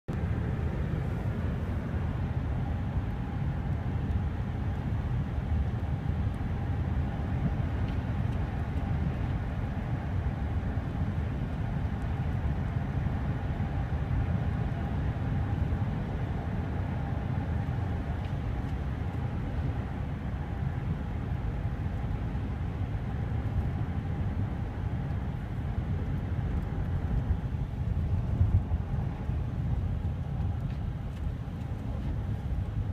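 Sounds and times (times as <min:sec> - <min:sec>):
car cabin road and engine rumble: 0:00.1 - 0:32.9
faint steady hum: 0:00.1 - 0:32.9.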